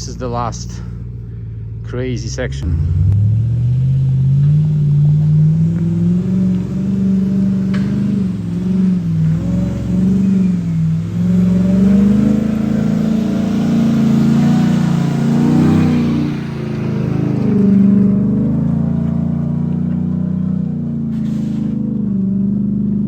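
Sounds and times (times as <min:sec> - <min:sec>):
pickup engine revving hard: 0:02.6 - 0:23.0.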